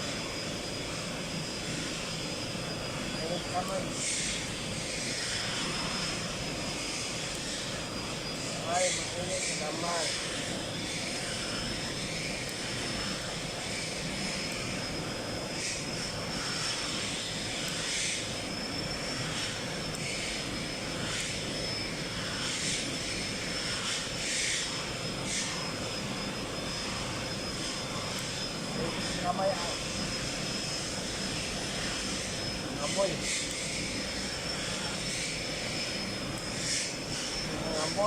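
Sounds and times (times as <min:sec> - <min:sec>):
factory machinery drone: 0:00.0 - 0:38.0
high-pitched whine: 0:00.0 - 0:38.0.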